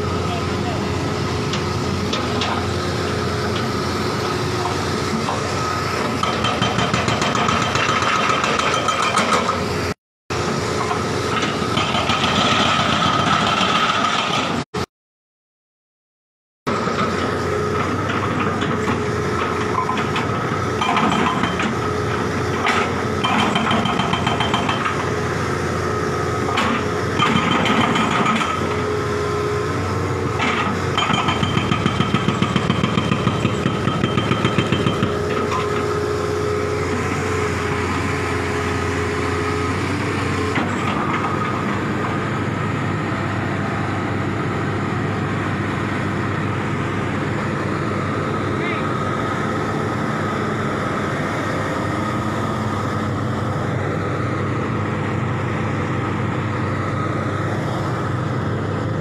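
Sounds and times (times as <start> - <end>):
excavator diesel engine running: 0.0 - 14.6, 16.7 - 59.0.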